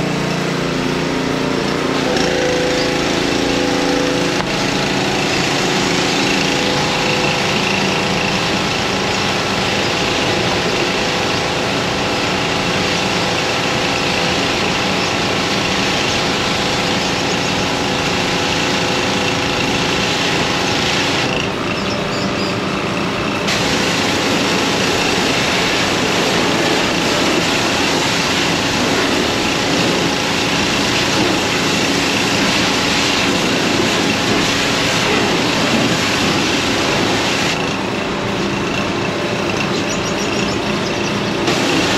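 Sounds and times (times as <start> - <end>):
pressure washer engine running: 0.0 - 41.9
pressure washer hiss: 2.0 - 21.4, 23.5 - 37.7, 41.4 - 41.9.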